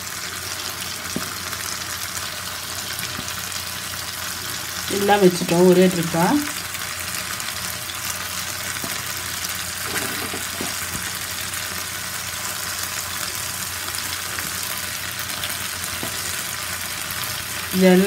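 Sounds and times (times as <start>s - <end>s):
slices sizzling in oil: 0.0s - 18.0s.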